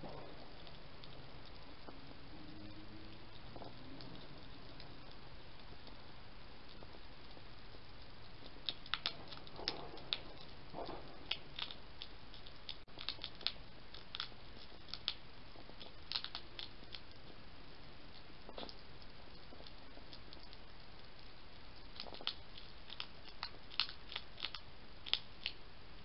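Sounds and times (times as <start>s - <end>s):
steady hiss: 0.0s - 26.0s
hedgehog crunching dry food: 0.1s - 25.6s.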